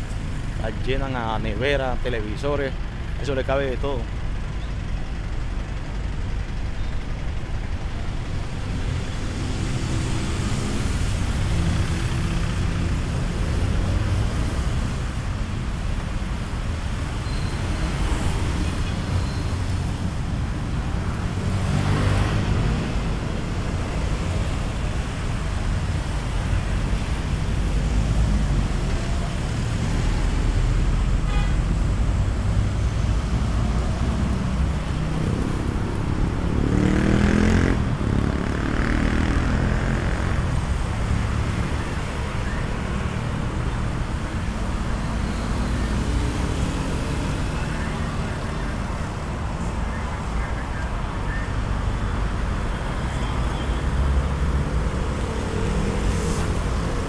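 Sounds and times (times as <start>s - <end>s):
vehicle engines running: 0.0s - 57.0s
vehicles passing close by: 0.0s - 57.0s.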